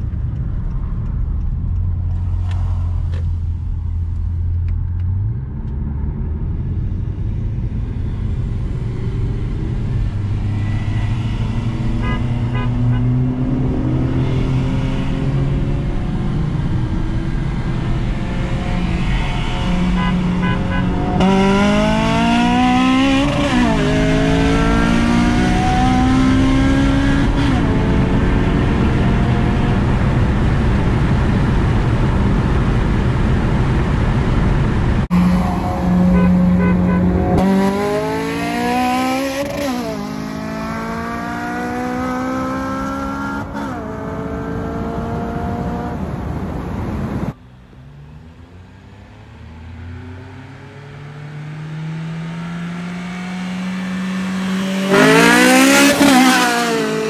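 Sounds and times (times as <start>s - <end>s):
car engine under full throttle: 0.0s - 57.0s.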